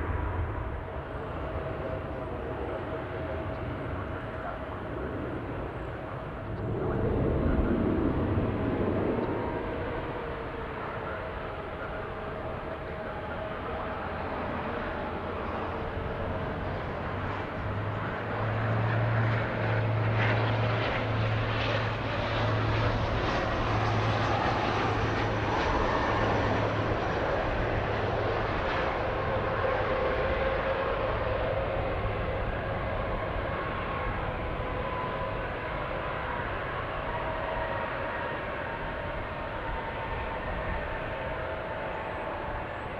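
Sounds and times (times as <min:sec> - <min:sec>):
airplane engines passing: 0:00.0 - 0:42.9.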